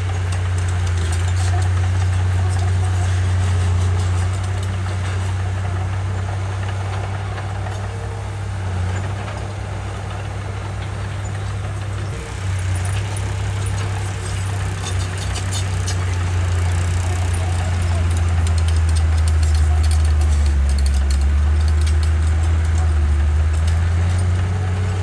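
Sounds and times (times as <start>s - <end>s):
bulldozer diesel engine droning: 0.0s - 25.0s.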